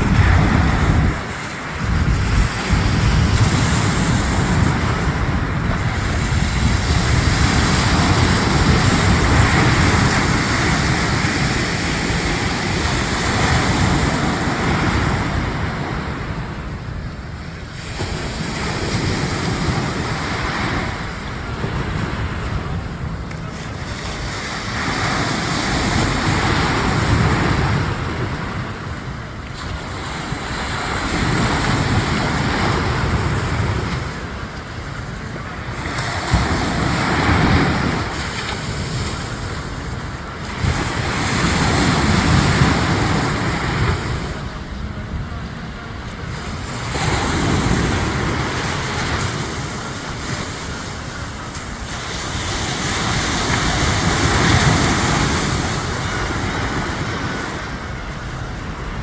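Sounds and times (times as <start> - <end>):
waves breaking on a beach: 0.0 - 59.0
wind rumbling on microphone: 0.0 - 59.0.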